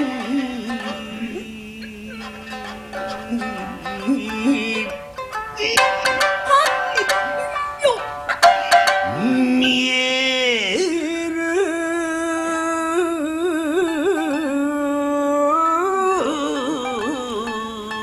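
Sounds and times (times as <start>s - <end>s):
elderly man singing: 0.0s - 7.8s, 8.4s - 18.0s.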